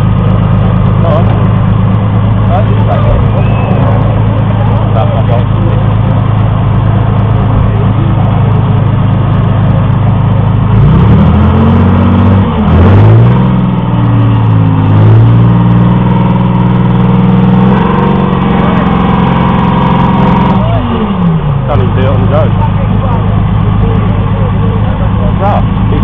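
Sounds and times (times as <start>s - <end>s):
tracked vehicle engine revving: 0.0s - 26.0s.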